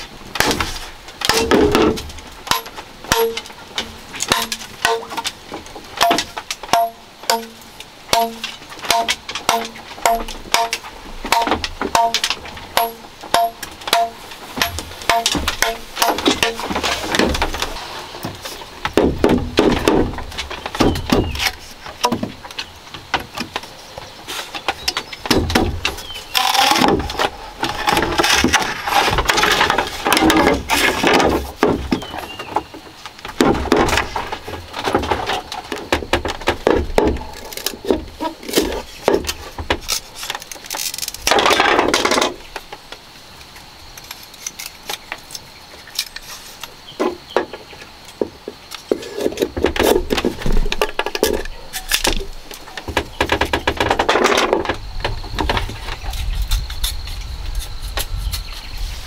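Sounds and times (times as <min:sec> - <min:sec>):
bamboo splitting rasp: 0:00.0 - 0:42.6, 0:43.9 - 0:47.6, 0:48.2 - 0:59.0
bamboo strips handled: 0:00.0 - 0:59.0.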